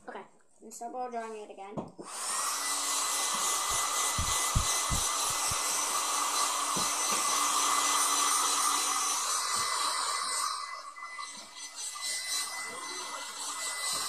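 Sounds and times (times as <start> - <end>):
hair dryer blowing: 2.0 - 14.0.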